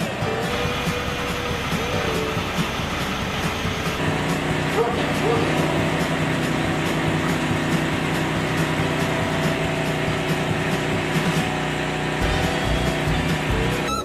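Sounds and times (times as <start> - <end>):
large machine droning: 0.0 - 14.0.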